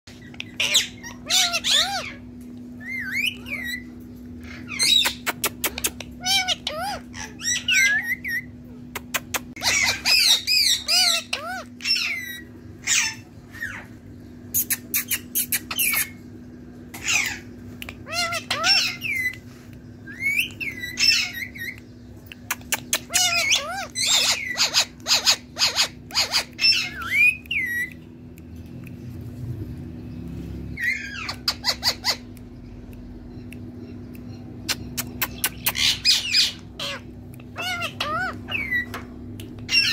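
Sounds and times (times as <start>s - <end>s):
parakeet squawking and chattering: 0.1s - 29.3s, 29.9s - 39.9s.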